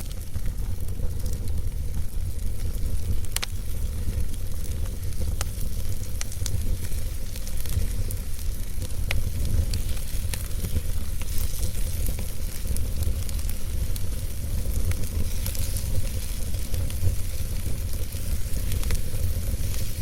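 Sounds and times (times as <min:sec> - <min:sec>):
burning logs crackling and popping: 0:00.0 - 0:20.0
fire rumbling and hissing: 0:00.0 - 0:20.0.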